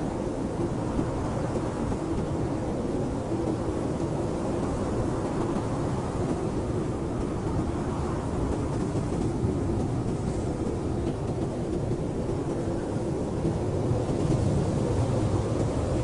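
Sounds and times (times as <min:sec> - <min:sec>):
blizzard wind blowing: 0:00.0 - 0:16.0.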